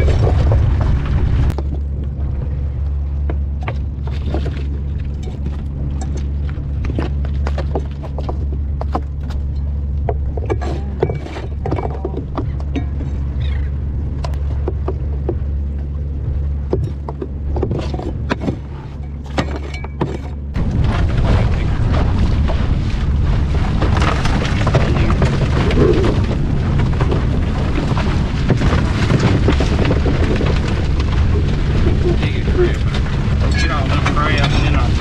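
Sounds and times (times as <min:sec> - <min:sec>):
outboard motor humming: 0:00.0 - 0:35.0
wind noise: 0:00.0 - 0:35.0.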